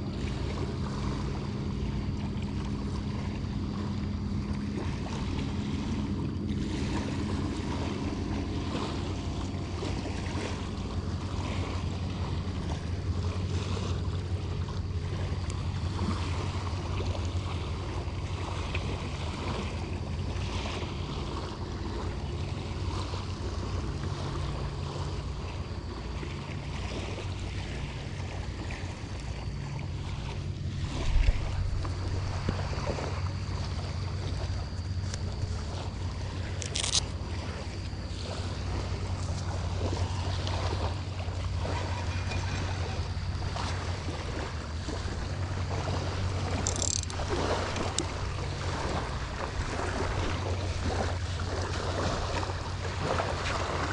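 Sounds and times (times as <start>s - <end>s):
light surf on shore: 0.0s - 53.9s
low motor drone: 0.0s - 53.9s.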